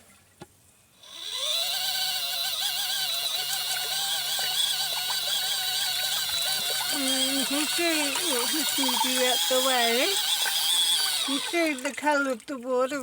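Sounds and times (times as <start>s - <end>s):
washing machine motor whine: 1.0s - 12.5s.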